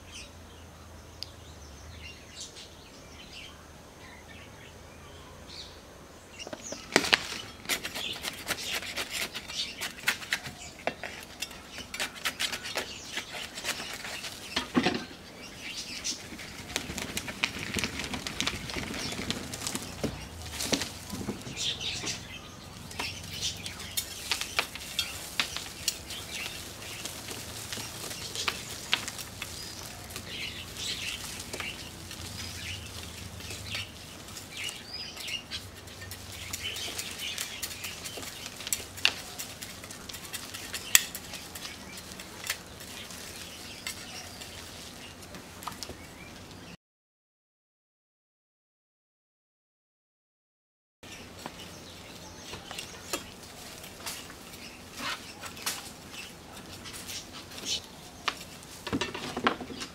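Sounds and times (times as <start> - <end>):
leaves rustling: 1.3 - 46.7, 51.1 - 59.9
roots and soil crumbling: 6.5 - 46.6, 51.2 - 59.9.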